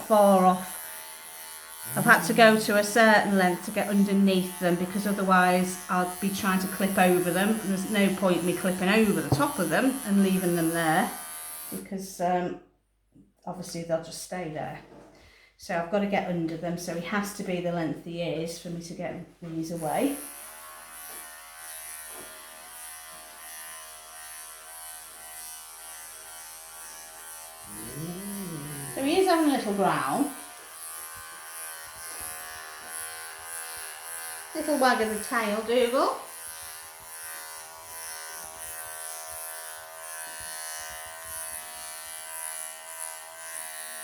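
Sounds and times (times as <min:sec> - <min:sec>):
electric clippers buzzing: 0:00.0 - 0:11.8, 0:19.8 - 0:44.0.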